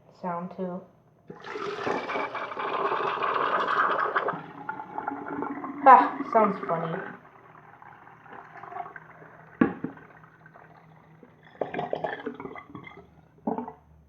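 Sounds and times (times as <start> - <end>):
toilet flushing: 1.3 - 13.4
water gurgling and splashing: 1.3 - 13.7.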